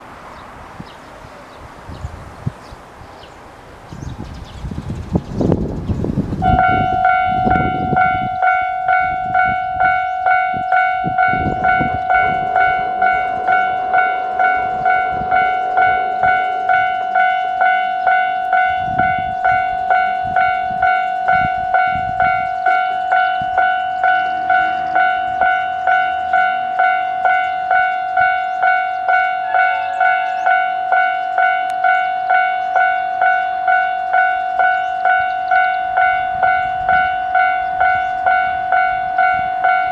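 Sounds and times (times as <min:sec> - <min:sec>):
level-crossing warning bell ringing: 0:06.4 - 0:39.9.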